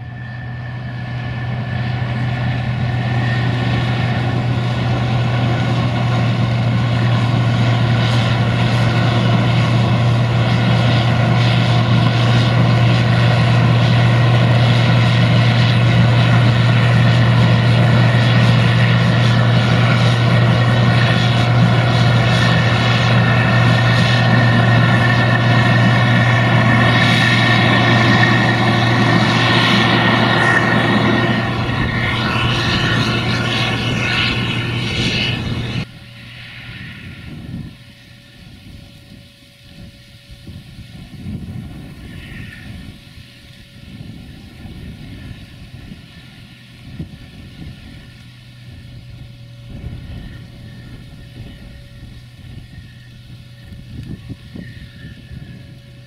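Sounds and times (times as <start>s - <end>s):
diesel engine drone: 0.0s - 56.0s
threshing machinery whirring rattling: 0.0s - 56.0s.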